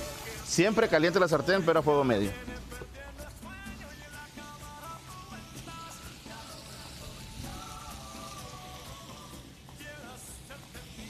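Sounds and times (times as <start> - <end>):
chicken sizzling in a pan: 0.0 - 2.2, 4.0 - 11.0
background music with held tones: 0.0 - 11.0.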